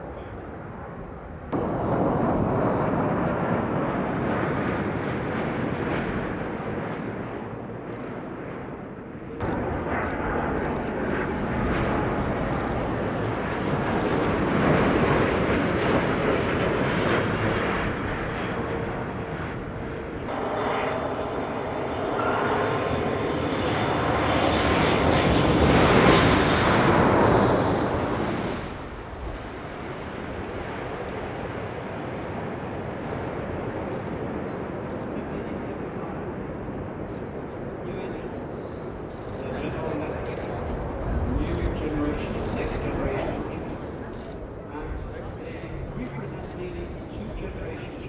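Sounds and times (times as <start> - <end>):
aircraft engine roar: 0.0 - 48.0.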